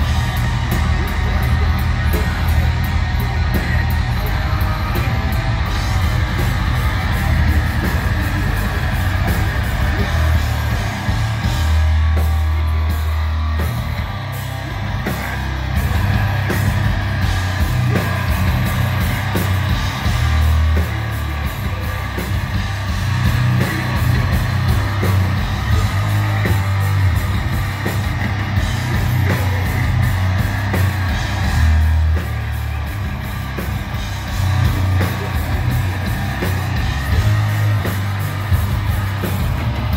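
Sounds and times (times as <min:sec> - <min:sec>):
bass guitar: 0:00.0 - 0:39.9
distorted electric guitars: 0:00.0 - 0:39.9
pounding drums: 0:00.0 - 0:39.9.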